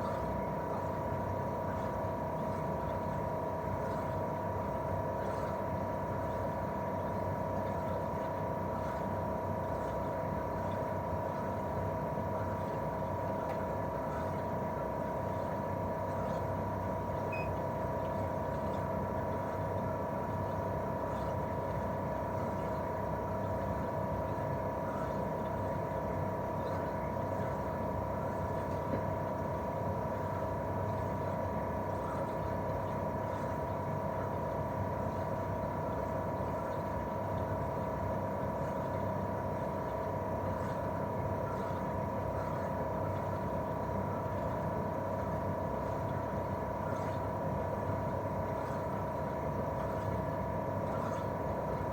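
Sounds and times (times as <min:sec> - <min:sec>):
compressor whine: 0:00.0 - 0:51.9.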